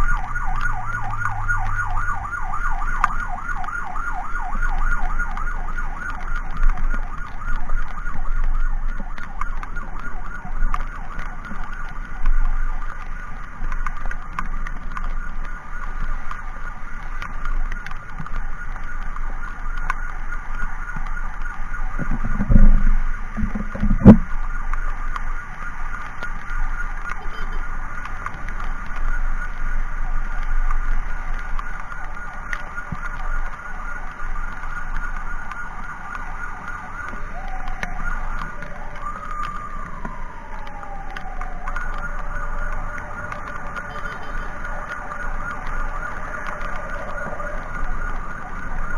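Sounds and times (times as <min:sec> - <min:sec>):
emergency siren warbling: 0:00.0 - 0:48.9
wind rumble: 0:00.0 - 0:48.9.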